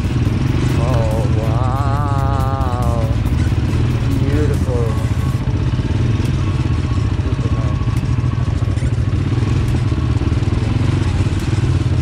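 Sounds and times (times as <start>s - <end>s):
atv engine pulsing: 0.0s - 12.0s.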